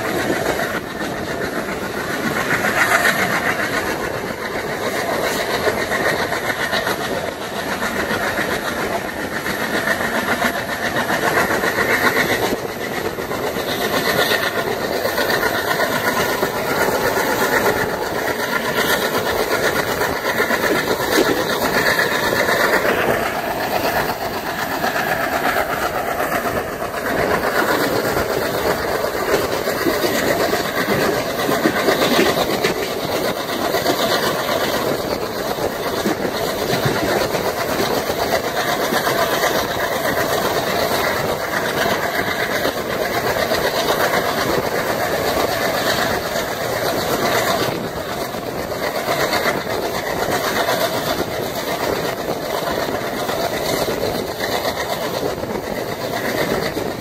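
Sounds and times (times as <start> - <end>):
diesel train rumbling on rails: 0.0 - 57.0.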